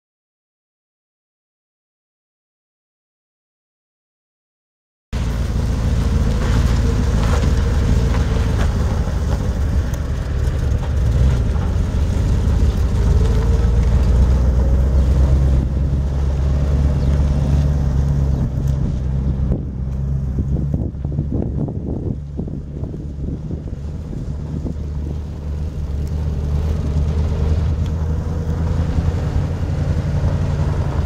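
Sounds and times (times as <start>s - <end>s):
truck engine rumbling: 5.2s - 31.0s.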